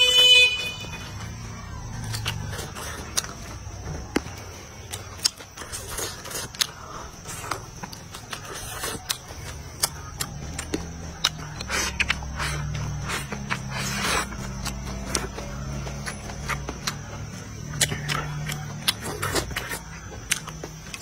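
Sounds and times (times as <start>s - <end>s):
chewing with wet mouth clicks: 2.0s - 21.0s.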